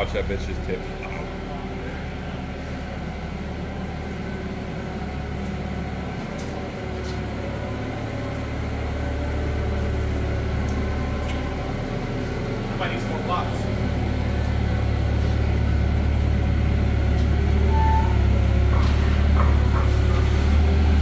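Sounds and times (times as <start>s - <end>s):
forklift engine running: 0.0s - 21.0s.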